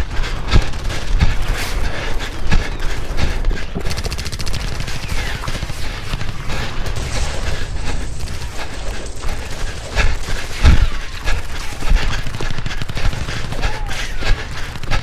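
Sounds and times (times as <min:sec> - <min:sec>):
gunfire bursts: 0:00.0 - 0:15.0.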